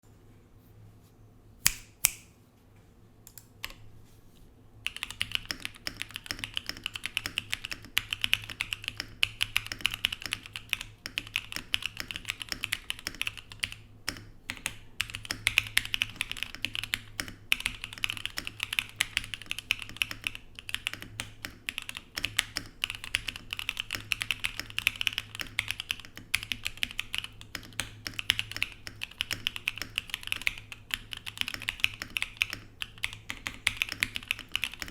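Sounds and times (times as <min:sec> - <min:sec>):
mechanical keyboard typing: 0:04.8 - 0:34.9.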